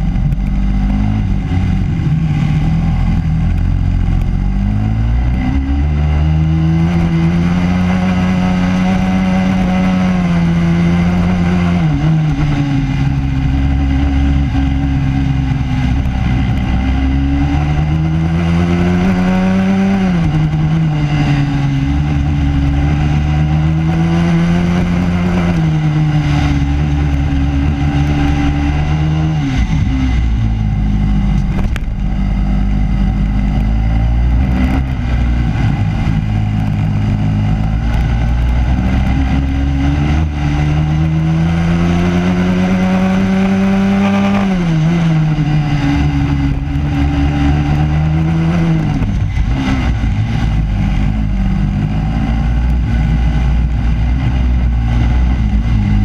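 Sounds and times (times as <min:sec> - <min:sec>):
kart engine revving: 0:00.1 - 0:56.0.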